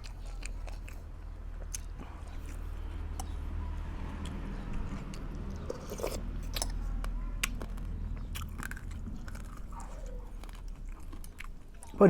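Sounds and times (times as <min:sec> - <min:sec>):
person chewing and eating: 0:00.0 - 0:12.0.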